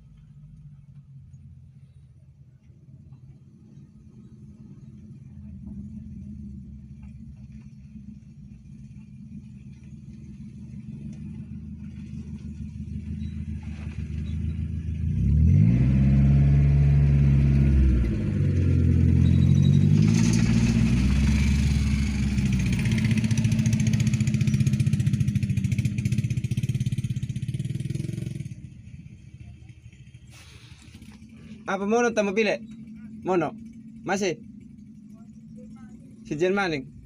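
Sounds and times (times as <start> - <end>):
truck engine revving: 3.0 - 37.0.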